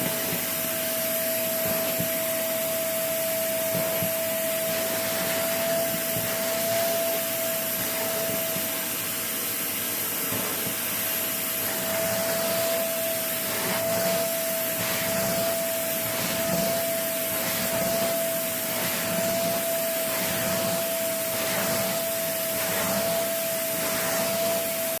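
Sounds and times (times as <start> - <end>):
vacuum cleaner whining: 0.0 - 25.0.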